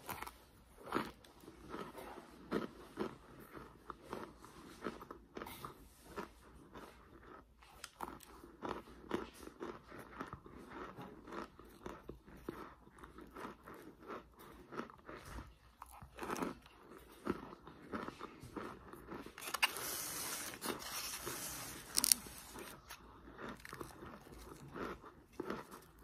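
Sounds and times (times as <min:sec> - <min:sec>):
person biting and chewing crunchily: 0:00.0 - 0:26.0.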